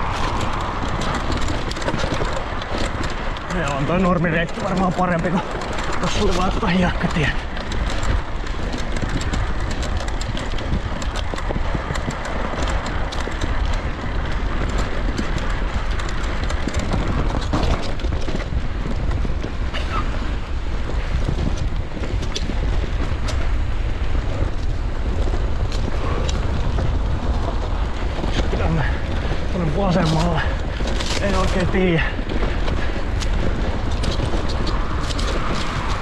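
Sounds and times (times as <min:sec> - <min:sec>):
bike ticking and rattling: 0:00.0 - 0:36.0
tyre noise: 0:00.0 - 0:36.0
wind buffeting microphone: 0:00.0 - 0:36.0.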